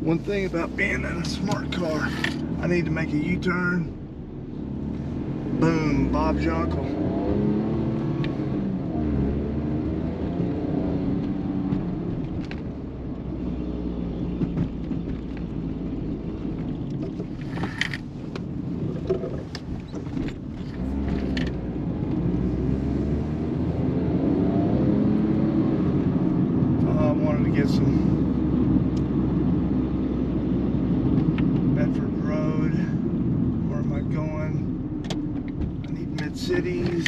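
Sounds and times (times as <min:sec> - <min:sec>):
road noise: 0:00.0 - 0:37.0
small car engine: 0:00.0 - 0:37.0.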